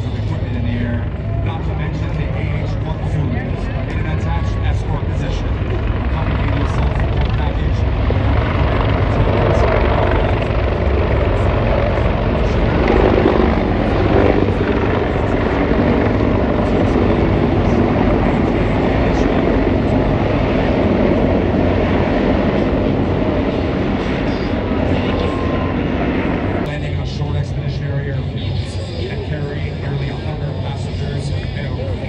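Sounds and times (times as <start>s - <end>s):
helicopter rotor and turbine noise: 0.0s - 32.0s.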